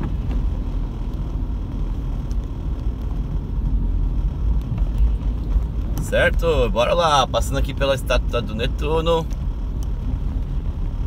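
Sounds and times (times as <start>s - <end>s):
car driving on wet road: 0.0s - 11.0s.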